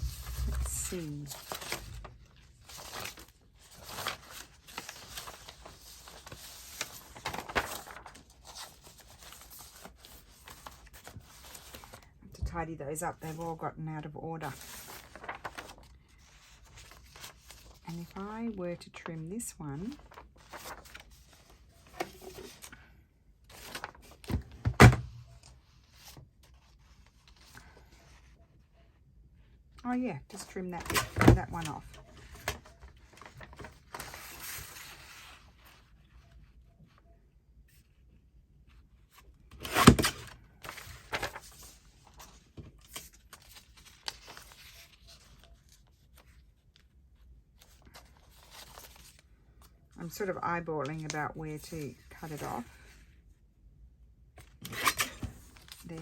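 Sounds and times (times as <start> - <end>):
paper rustling and shuffling: 0.0 - 29.0, 30.3 - 37.0, 38.7 - 53.2, 54.4 - 56.0.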